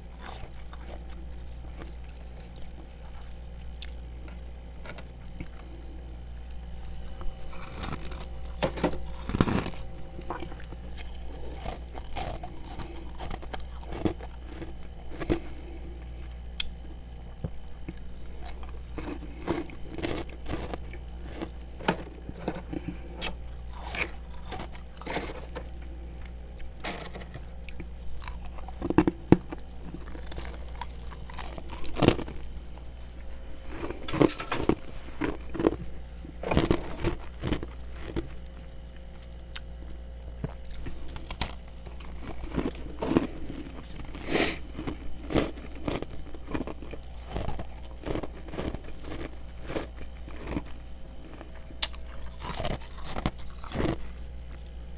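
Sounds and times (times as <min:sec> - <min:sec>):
crunching frost while chewing: 0:00.0 - 0:54.9
steady low hum: 0:00.0 - 0:54.9.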